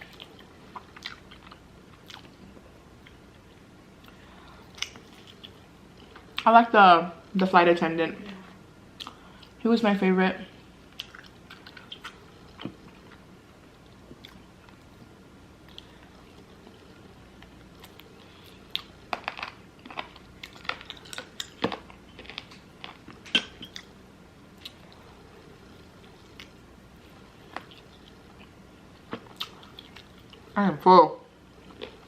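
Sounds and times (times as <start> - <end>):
chewing with crunchy bites: 0.0 - 6.4, 10.9 - 30.6, 31.6 - 32.0.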